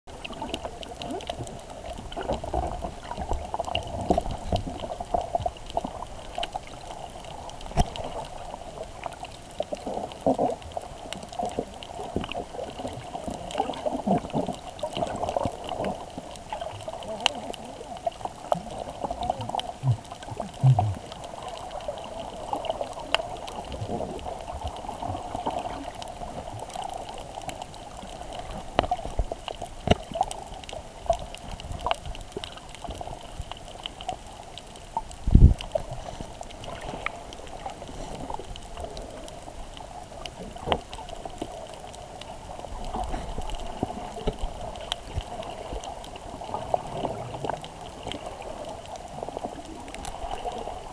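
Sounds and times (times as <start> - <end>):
sharp underwater clicks: 0.1 - 50.9.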